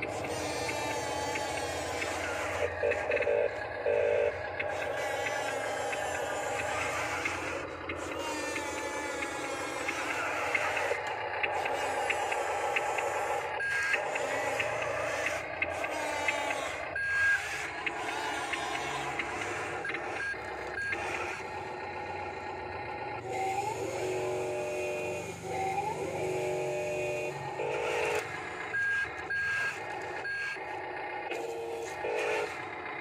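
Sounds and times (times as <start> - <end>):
toy wheel loader motor driving: 0.0 - 33.0.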